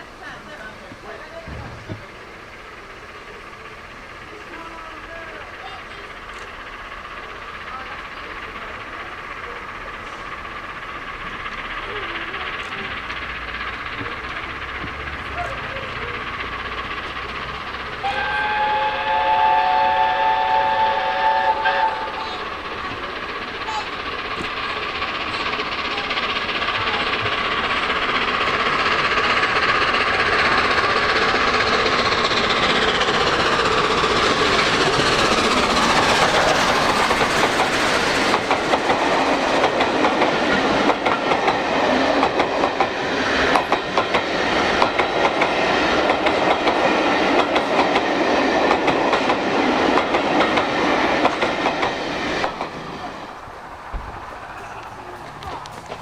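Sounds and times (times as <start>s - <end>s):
coaches clattering over rail joints: 0.0s - 18.6s, 19.4s - 56.0s
steam locomotive passing: 0.0s - 56.0s.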